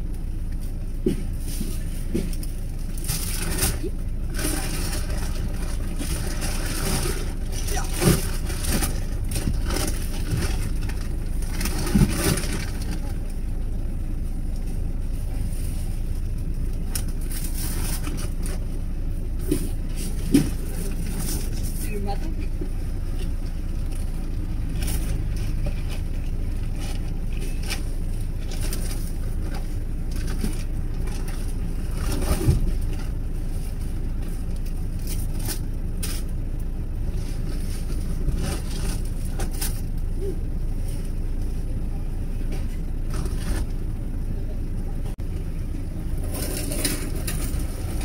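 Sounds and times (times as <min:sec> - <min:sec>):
car engine rumbling: 0:00.0 - 0:48.0.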